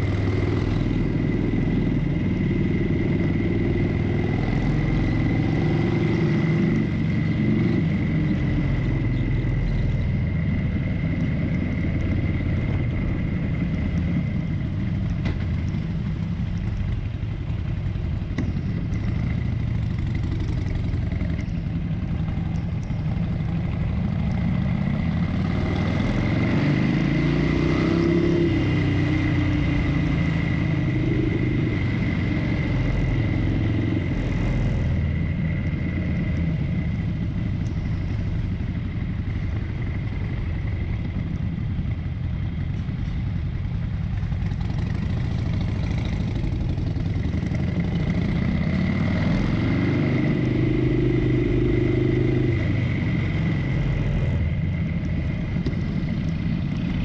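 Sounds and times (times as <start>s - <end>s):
motorcycle engine at low revs: 0.0s - 57.0s
road and wind noise: 0.0s - 57.0s.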